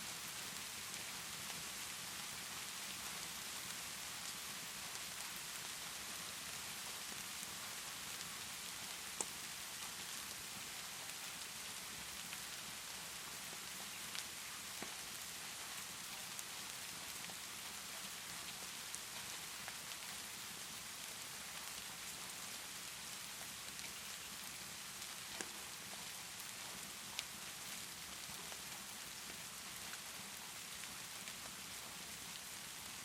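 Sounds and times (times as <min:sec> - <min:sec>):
rainfall hiss: 0:00.0 - 0:33.0
wood fire crackles: 0:00.5 - 0:33.0.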